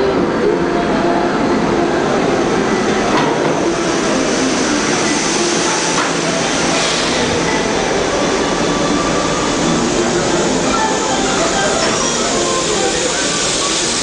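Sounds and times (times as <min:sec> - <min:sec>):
subway train passing: 0:00.0 - 0:14.0.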